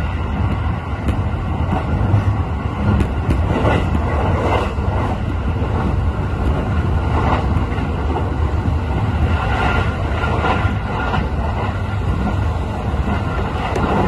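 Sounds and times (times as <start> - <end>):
electric train rumble inside car: 0.0 - 14.0.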